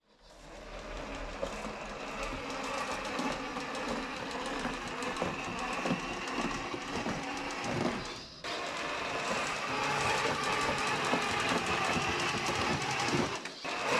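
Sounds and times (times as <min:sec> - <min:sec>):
electric motor whining: 0:00.3 - 0:13.9
chassis clicking and clattering: 0:00.6 - 0:13.7.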